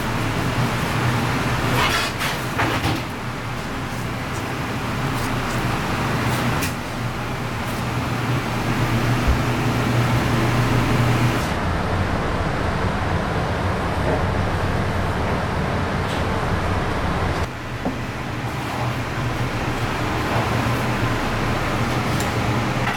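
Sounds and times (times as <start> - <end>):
mechanical hum: 0.0 - 22.9.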